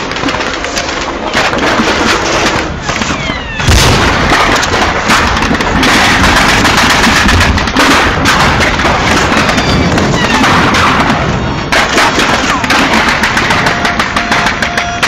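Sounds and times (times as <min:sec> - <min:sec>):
rifle and machine-gun fire: 0:00.0 - 0:15.0.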